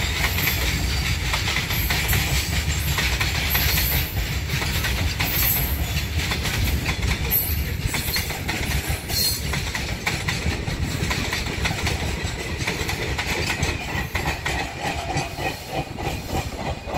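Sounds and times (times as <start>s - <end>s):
train rumbling: 0.0s - 16.9s
train wheels clicking on rails: 0.0s - 16.9s.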